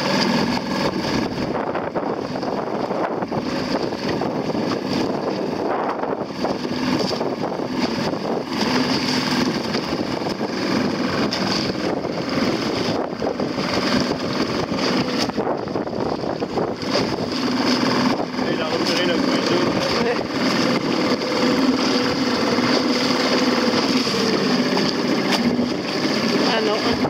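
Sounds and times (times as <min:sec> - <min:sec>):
boat motor running: 0:00.0 - 0:27.0
choppy water rushing: 0:00.0 - 0:27.0
wind buffeting microphone: 0:00.0 - 0:27.0.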